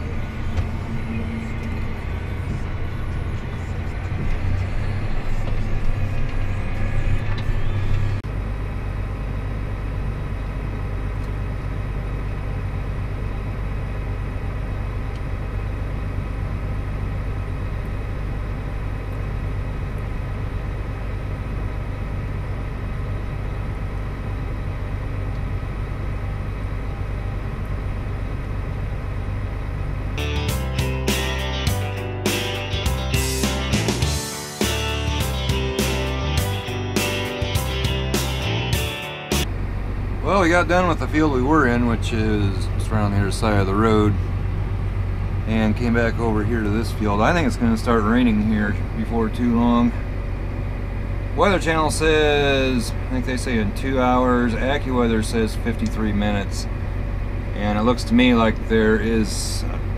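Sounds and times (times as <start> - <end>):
rising whine: 0.0 - 59.1
tractor engine running: 0.0 - 59.9.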